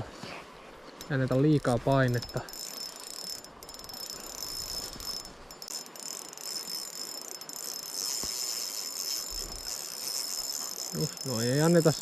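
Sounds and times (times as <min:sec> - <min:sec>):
fishing reel drag clicking: 0:00.9 - 0:12.0.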